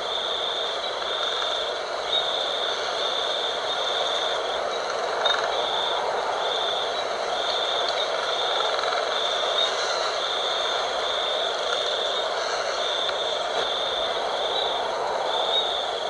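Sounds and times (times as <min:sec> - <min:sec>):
insect trill pulsing: 0:00.0 - 0:16.0
wind blowing: 0:00.0 - 0:16.0.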